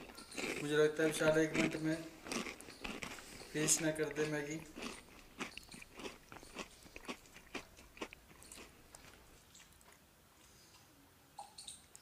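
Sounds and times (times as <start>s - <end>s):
wet chewing and mouth smacks: 0.0s - 10.8s.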